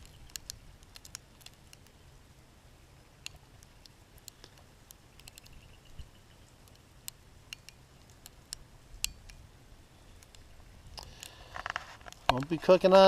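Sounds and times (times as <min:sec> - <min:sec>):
sleet ticking on surfaces: 0:00.0 - 0:02.1, 0:02.9 - 0:13.0
low steady rumble: 0:00.0 - 0:13.0.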